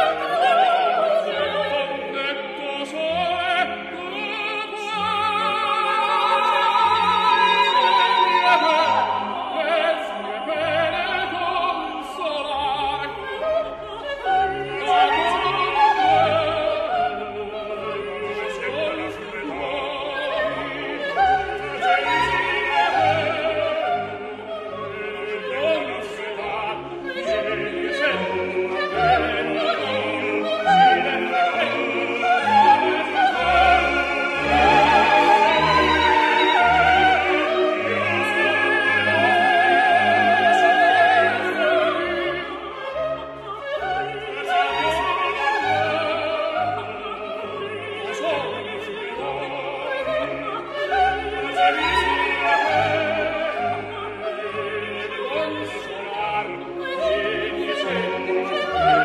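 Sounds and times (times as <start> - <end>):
opera aria singing: 0.0 - 59.0
orchestral accompaniment: 0.0 - 59.0.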